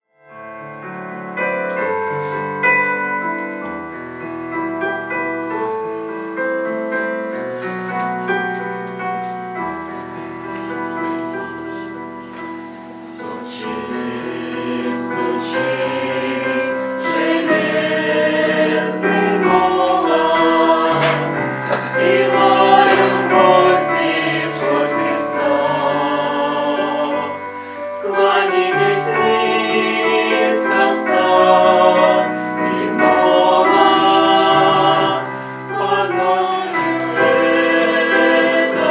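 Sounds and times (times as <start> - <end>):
keyboard accompaniment: 0.2 - 38.9
choir singing a hymn: 0.7 - 38.9.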